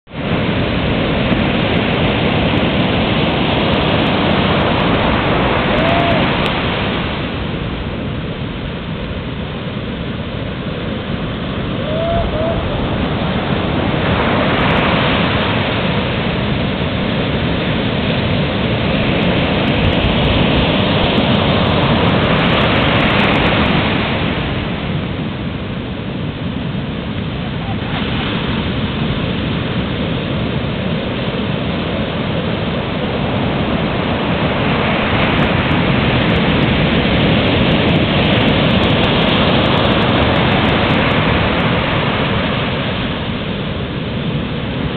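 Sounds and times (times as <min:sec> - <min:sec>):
waves breaking: 0:00.1 - 0:44.9.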